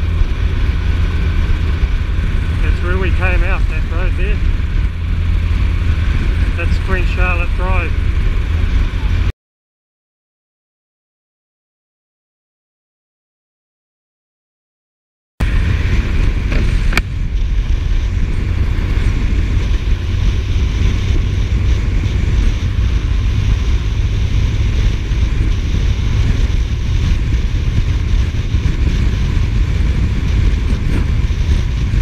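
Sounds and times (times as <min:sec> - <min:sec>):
motorcycle engine rumble: 0:00.0 - 0:09.3, 0:15.4 - 0:32.0
wind rushing over microphone: 0:00.0 - 0:09.3, 0:15.4 - 0:32.0.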